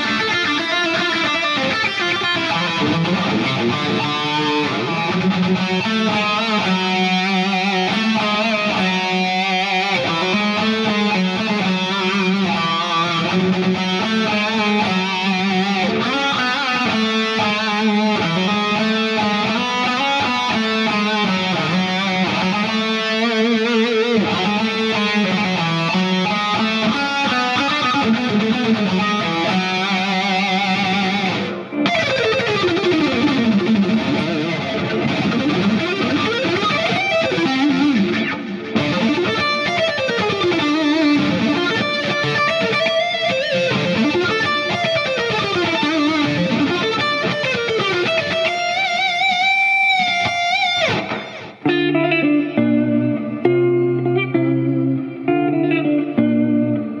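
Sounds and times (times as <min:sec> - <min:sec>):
distorted electric lead guitar: 0:00.0 - 0:57.0.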